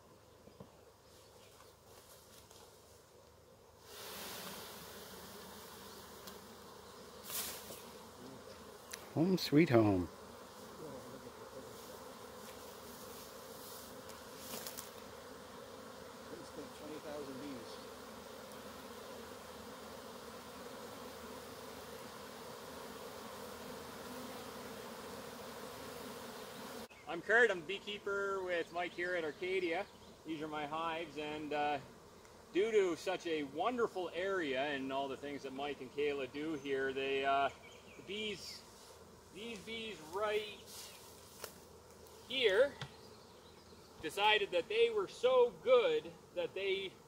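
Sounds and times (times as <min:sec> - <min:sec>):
bee swarm buzzing: 0:00.0 - 0:47.0
rustle: 0:00.0 - 0:47.0.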